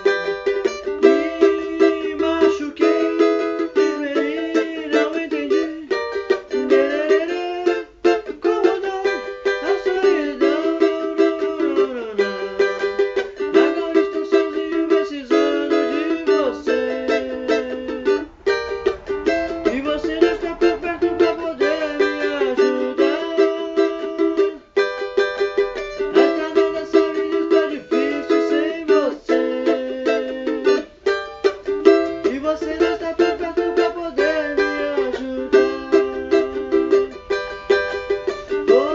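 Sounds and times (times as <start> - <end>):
cavaquinho chords strummed: 0.0 - 38.9.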